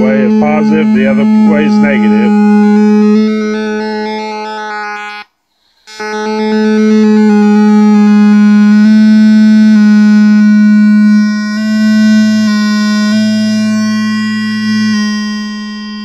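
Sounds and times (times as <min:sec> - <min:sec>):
buzzy electronic tone: 0:00.0 - 0:16.0.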